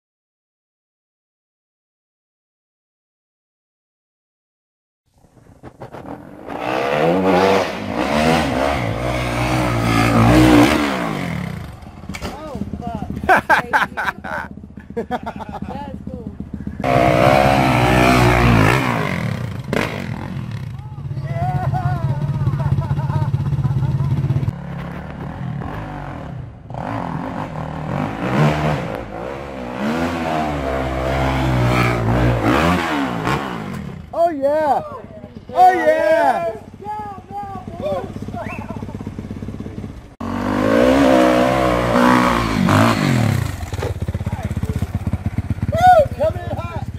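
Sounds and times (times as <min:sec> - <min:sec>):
dirt bike engine revving: 0:05.5 - 0:46.9.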